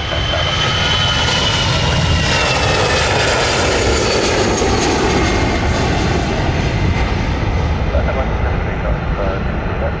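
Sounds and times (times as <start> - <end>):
faint engine whine: 0.0 - 10.0
jet airliner engines roaring: 0.0 - 10.0.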